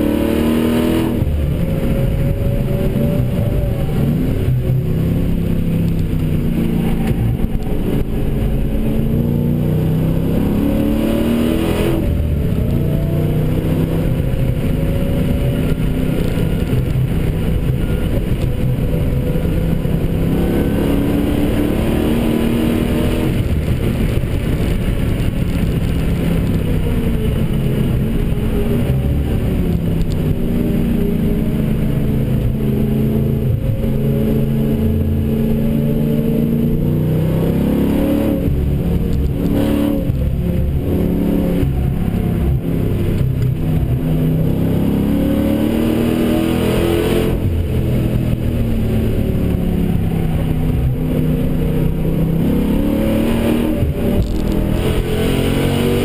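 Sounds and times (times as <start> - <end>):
car engine revving: 0.0 - 56.0
road and tyre rumble: 0.0 - 56.0.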